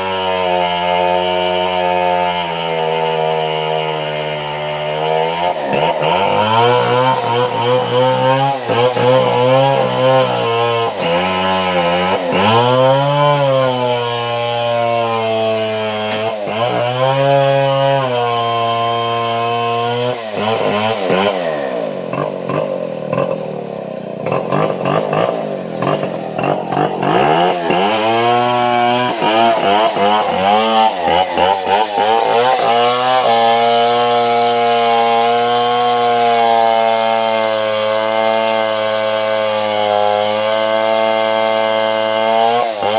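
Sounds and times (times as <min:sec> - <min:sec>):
chainsaw cutting timber: 0:00.0 - 0:42.9.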